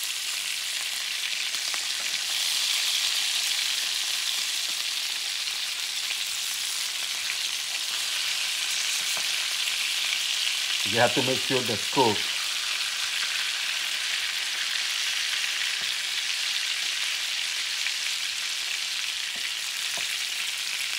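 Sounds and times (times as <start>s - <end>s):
meatballs sizzling in oil: 0.0s - 20.9s.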